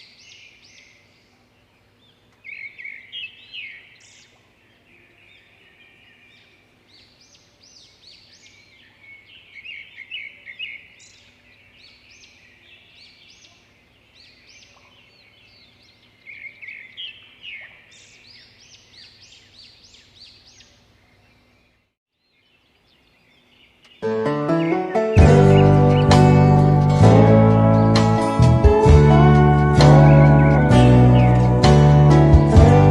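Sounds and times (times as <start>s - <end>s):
birds chirping and singing: 0.0s - 32.9s.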